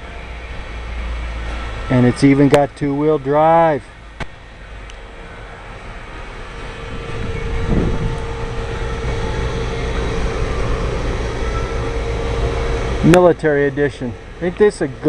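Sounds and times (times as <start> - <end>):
machinery rumbling: 0.0 - 15.0
steady tone: 0.0 - 15.0.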